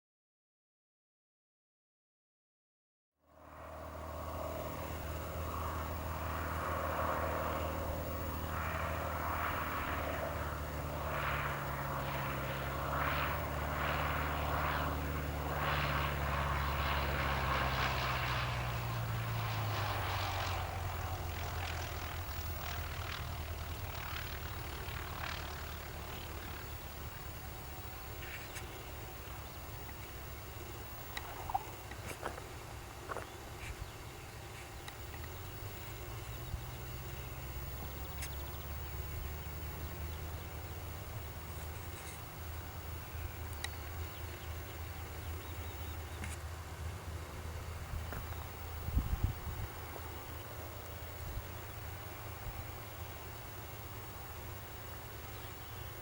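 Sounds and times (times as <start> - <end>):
propeller engine running: 3.2 - 56.0.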